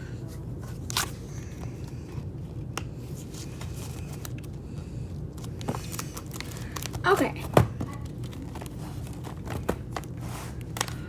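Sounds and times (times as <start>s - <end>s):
steady low hum: 0.0s - 11.0s
trading cards clicking and slapping: 0.7s - 11.0s.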